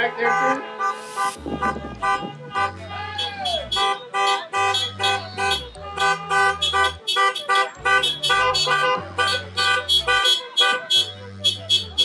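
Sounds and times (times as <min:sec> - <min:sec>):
car horns honking: 0:00.0 - 0:12.0.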